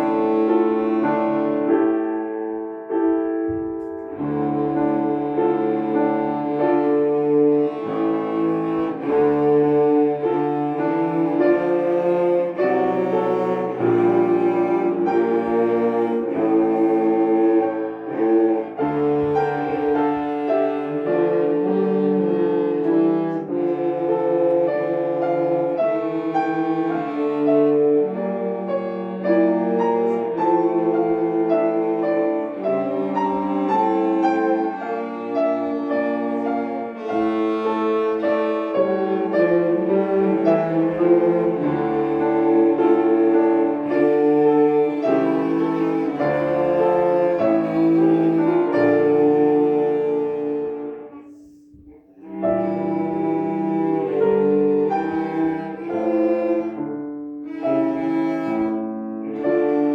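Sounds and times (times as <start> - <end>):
cellos playing: 0.0 - 59.9
piano accompaniment: 0.0 - 59.9.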